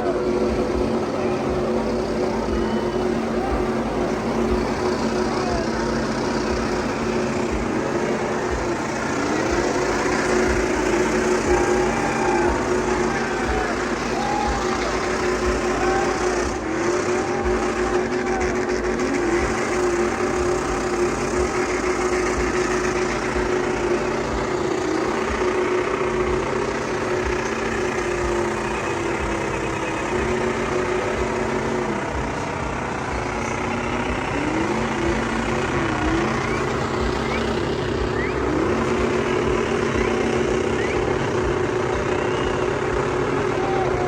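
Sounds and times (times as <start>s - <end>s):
held hum: 0.0s - 44.0s
short wavering whines: 0.0s - 44.0s
vehicle engines idling: 0.0s - 44.0s.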